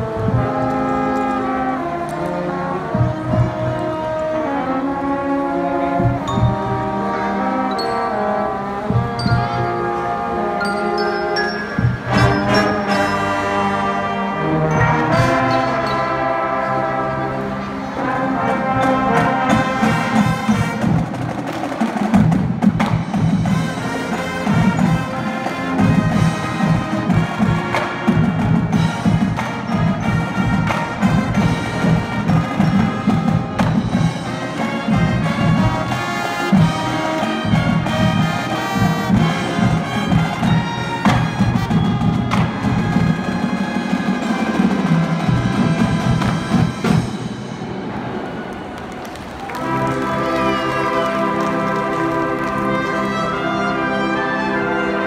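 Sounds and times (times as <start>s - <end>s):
marching drumline: 0.0s - 7.3s, 8.7s - 10.5s, 11.6s - 17.1s, 18.0s - 55.0s
brass instruments playing: 0.0s - 55.0s.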